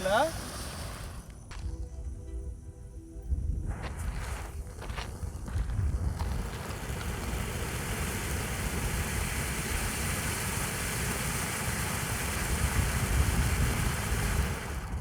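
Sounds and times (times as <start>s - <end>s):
ground fountain firework hissing: 0.0s - 1.7s, 3.7s - 15.0s.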